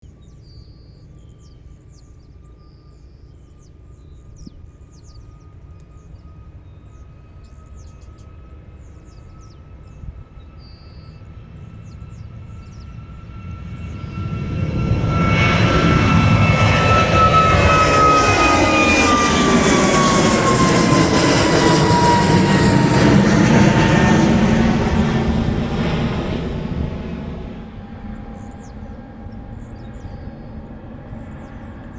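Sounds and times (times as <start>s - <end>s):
jet airliner taking off: 3.7s - 31.9s.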